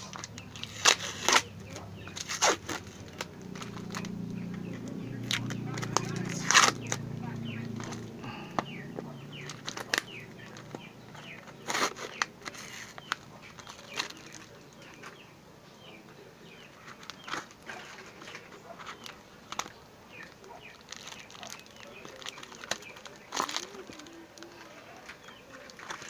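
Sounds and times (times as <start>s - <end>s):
cardboard rustling and crinkling: 0.0s - 15.3s, 16.5s - 26.0s
faint birds chirping: 0.0s - 26.0s.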